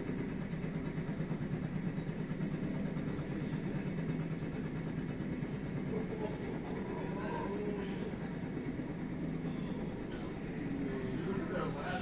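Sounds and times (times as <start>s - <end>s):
distant helicopter drone: 0.0s - 12.0s.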